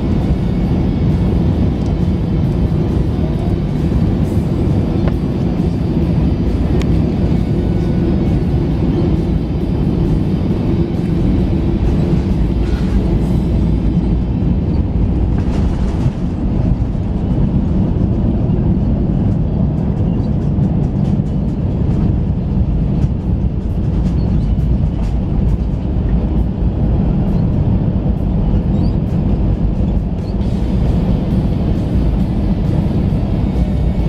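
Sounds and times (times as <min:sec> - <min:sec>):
airplane cabin rumble: 0:00.0 - 0:34.0.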